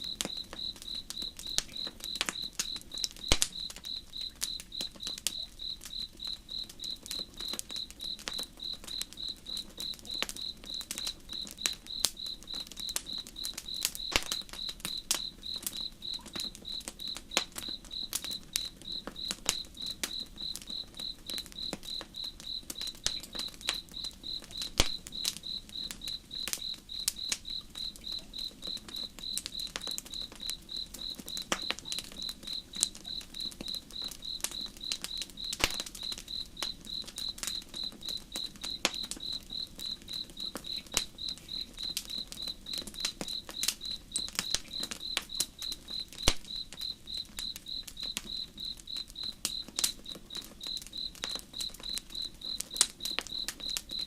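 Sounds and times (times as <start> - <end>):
campfire crackling and popping: 0.0 - 54.0
cricket chirping: 0.0 - 54.0.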